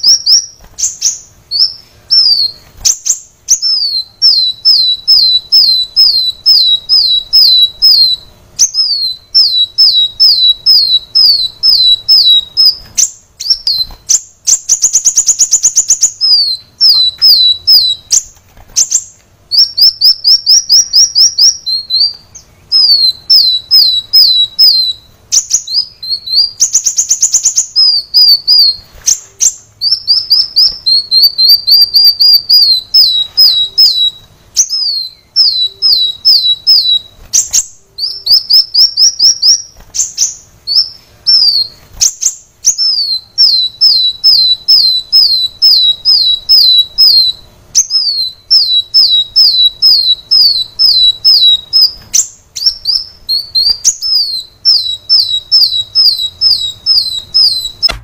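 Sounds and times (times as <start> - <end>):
sunbird singing high notes: 0.0 - 58.0.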